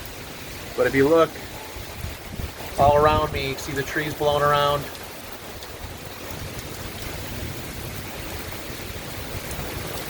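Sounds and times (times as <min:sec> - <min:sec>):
gusty wind rumble: 0:00.0 - 0:10.0
heavy rain pouring: 0:00.0 - 0:10.0.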